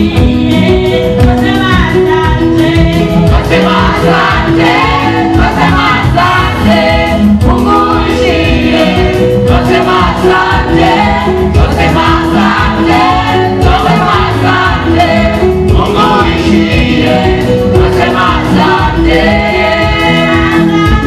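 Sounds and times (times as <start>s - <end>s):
group of voices singing: 0.0s - 21.0s
steady drum beat: 0.0s - 21.0s.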